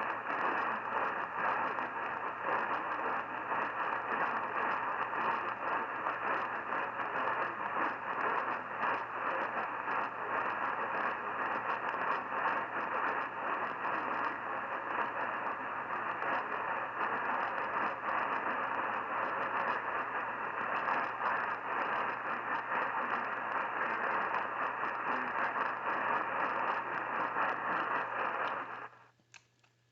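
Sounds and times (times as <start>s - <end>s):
radio static hiss: 0.0s - 29.2s
faint crackle: 0.0s - 29.9s.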